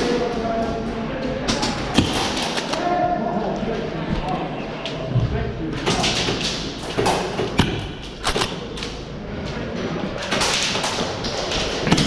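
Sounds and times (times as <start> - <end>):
noisy background: 0.0 - 10.5.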